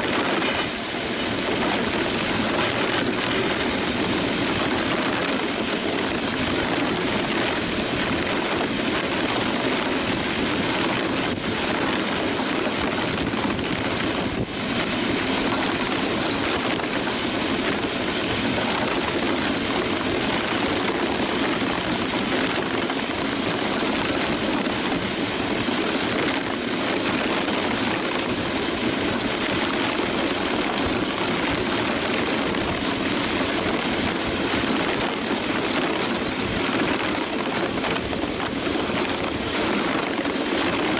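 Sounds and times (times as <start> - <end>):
wind on microphone: 0.0 - 40.9.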